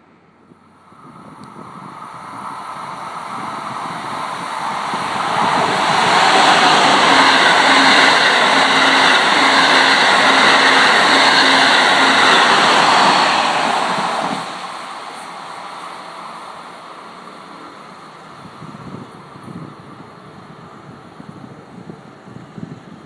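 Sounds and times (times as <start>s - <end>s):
high-speed train passing: 0.0s - 23.0s.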